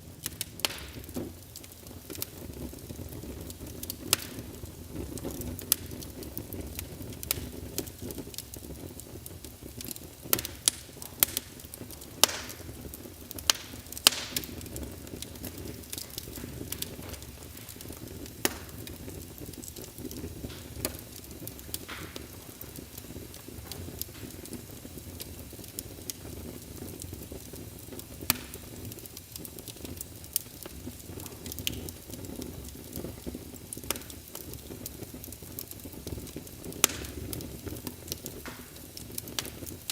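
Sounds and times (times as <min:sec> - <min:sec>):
fire crackling and popping: 0:00.0 - 0:39.9
flames rustling: 0:00.0 - 0:39.9.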